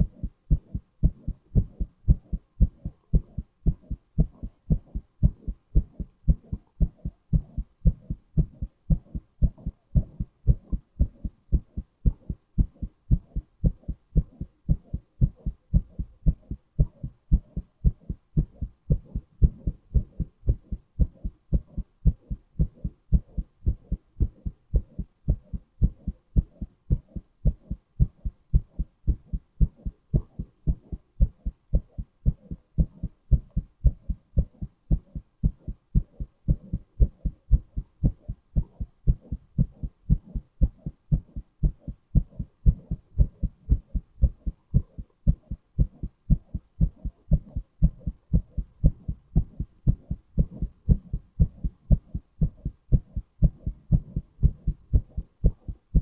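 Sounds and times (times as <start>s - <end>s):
heartbeat thuds: 0.0s - 56.0s.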